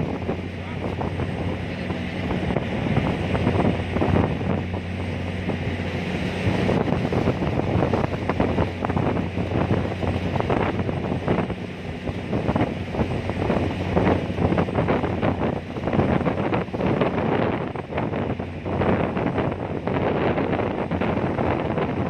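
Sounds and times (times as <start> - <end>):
ferry engine humming: 0.0 - 22.0
wind buffeting microphone: 0.0 - 22.0.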